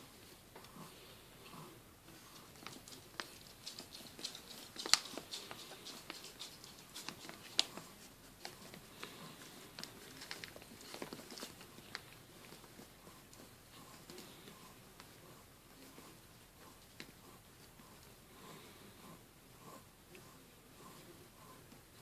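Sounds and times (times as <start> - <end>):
rustling against fleece: 0.0 - 22.0
puppies suckling: 0.1 - 22.0.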